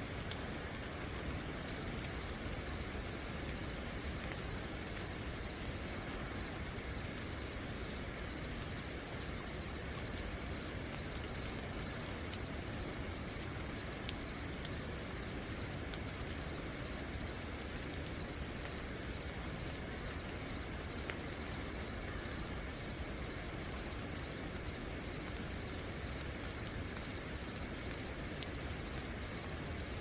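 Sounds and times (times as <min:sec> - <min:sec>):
crickets chirping: 0:00.0 - 0:30.0
sharp drip ticks: 0:00.0 - 0:30.0
steady rain falling: 0:00.0 - 0:30.0.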